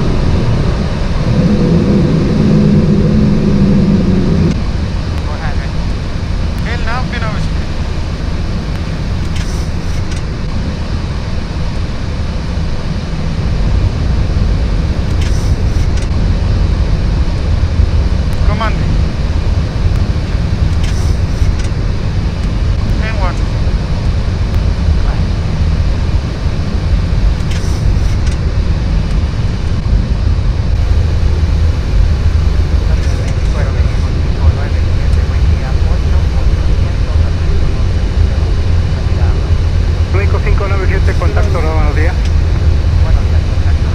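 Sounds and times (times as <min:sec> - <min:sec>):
air rushing past cockpit: 0:00.0 - 0:43.9
jet engine rumble: 0:00.0 - 0:43.9.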